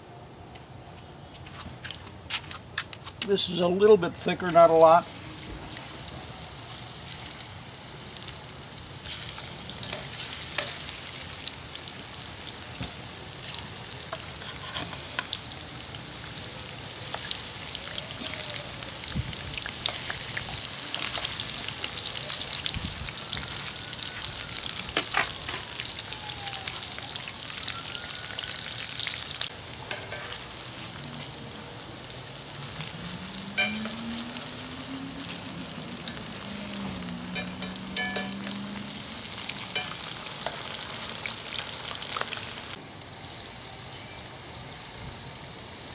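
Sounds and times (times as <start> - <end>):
onion rings deep-frying in oil: 3.2 - 44.9
oil popping and crackling: 4.6 - 42.8.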